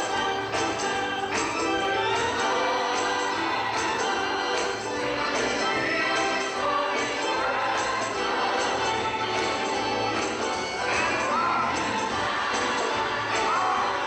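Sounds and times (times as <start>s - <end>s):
gospel choir singing: 0.0s - 14.0s
instrumental accompaniment: 0.0s - 14.0s
tambourine shaken and struck: 0.0s - 14.0s.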